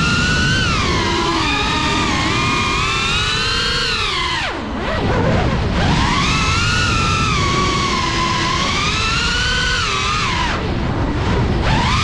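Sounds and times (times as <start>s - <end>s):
drone motors whining: 0.0s - 12.0s
wind rumble on microphone: 0.0s - 12.0s.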